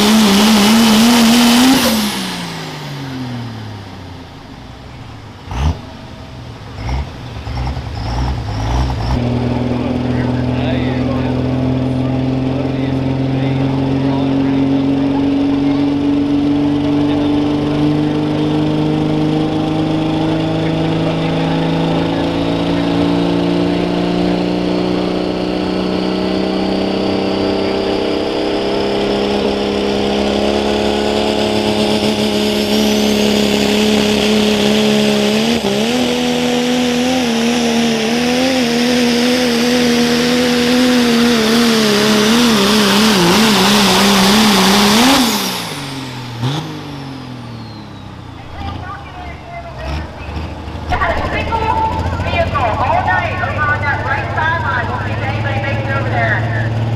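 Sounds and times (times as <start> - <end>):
diesel truck engine at full throttle: 0.0 - 56.9.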